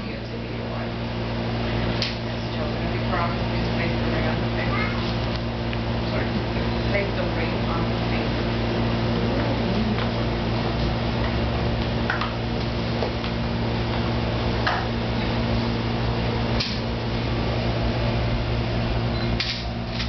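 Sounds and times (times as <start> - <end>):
air conditioning hum: 0.0 - 20.0.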